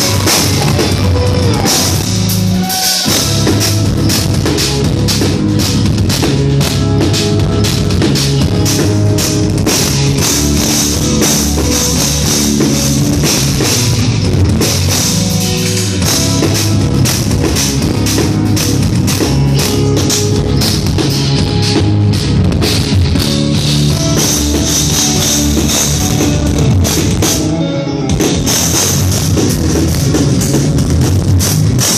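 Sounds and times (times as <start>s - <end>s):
electric guitars: 0.0s - 31.9s
rock drum kit: 0.0s - 31.9s.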